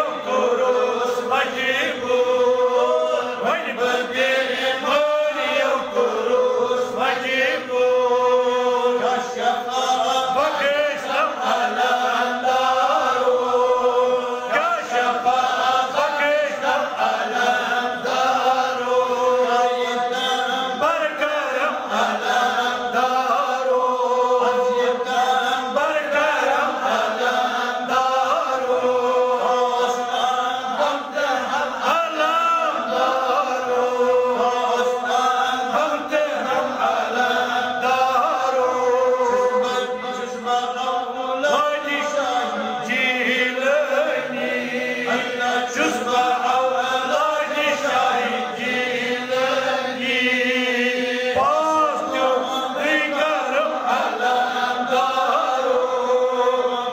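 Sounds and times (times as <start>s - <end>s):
person chanting slow melody: 0.0s - 56.9s.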